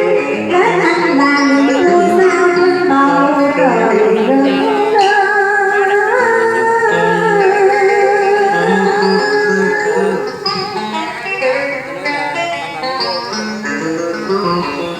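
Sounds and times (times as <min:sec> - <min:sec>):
traditional string instruments playing: 0:00.0 - 0:14.9.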